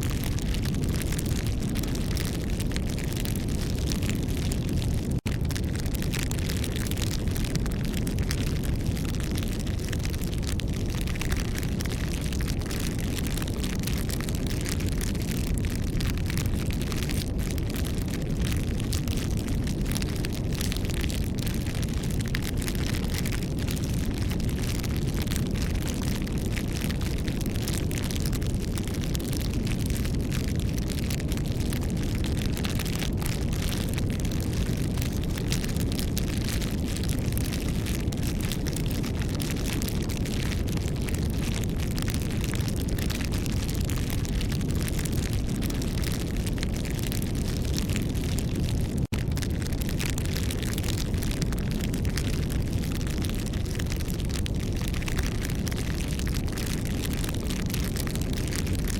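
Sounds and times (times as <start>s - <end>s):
bonfire crackling and popping: 0.0s - 58.9s
fire burning with low rush: 0.0s - 58.9s.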